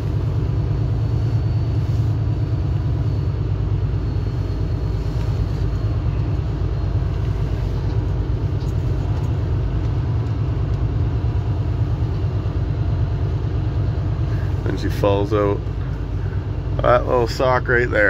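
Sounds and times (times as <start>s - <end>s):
truck diesel engine rumble: 0.0s - 18.0s.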